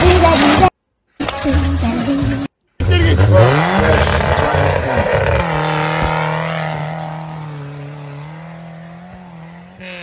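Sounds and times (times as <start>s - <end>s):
off-road vehicle engine: 0.0s - 10.0s.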